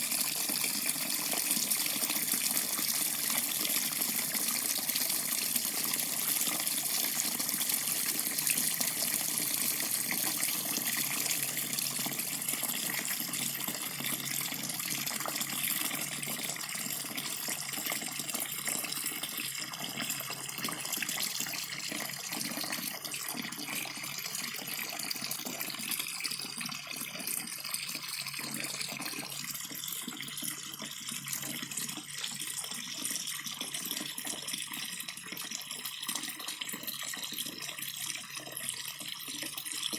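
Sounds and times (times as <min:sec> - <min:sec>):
tap water running from faucet: 0:00.0 - 0:39.9.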